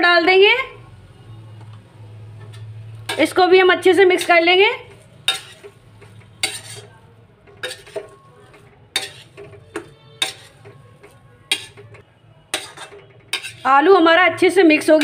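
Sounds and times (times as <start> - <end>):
metal spatula scraping a pan: 2.3 - 15.0.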